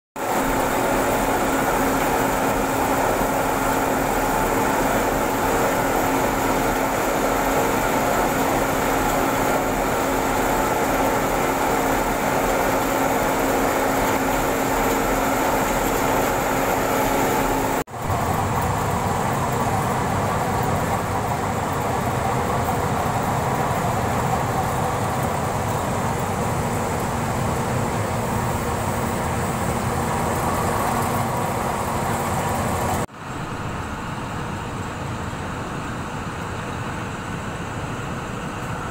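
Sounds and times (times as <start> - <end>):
belt conveyor running: 0.2 - 35.5.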